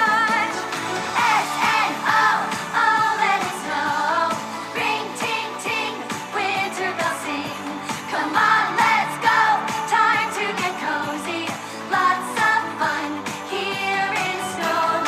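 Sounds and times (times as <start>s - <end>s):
pop song with vocals: 0.0s - 15.0s.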